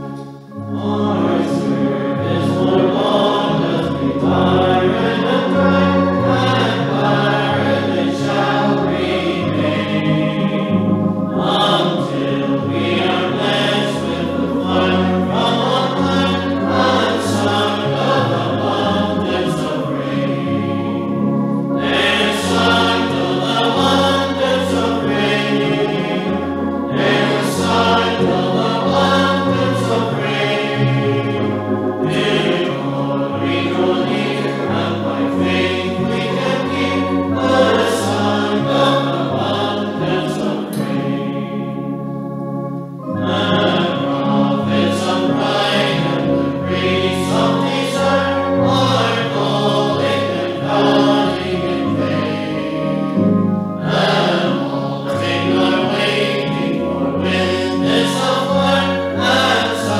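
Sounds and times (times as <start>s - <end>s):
congregation singing a hymn: 0.0s - 59.9s
sustained low accompaniment: 0.0s - 59.9s.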